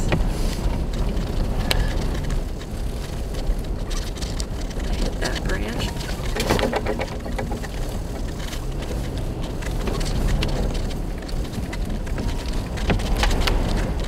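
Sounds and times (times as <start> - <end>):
engine and tyres rumbling: 0.0 - 14.0.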